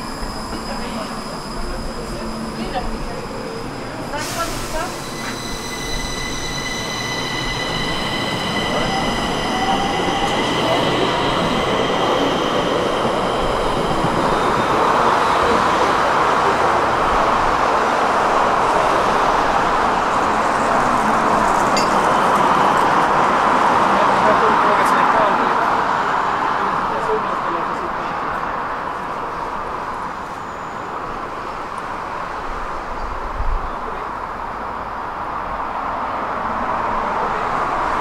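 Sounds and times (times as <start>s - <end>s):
subway train running on rails: 0.0s - 38.0s.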